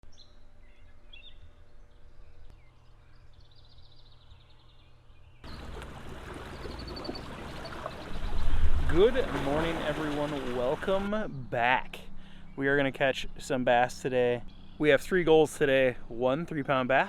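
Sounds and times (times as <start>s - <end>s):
small birds chirping and trilling: 0.1s - 15.8s.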